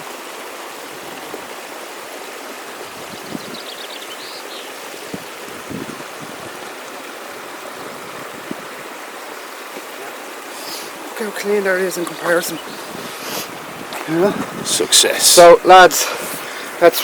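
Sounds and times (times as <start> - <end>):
stream running: 0.0 - 17.0.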